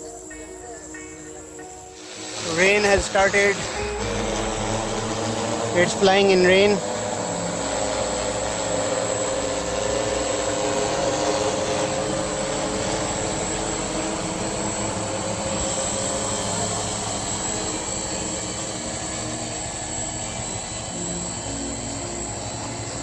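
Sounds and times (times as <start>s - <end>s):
drone propellers whirring: 0.0s - 23.0s.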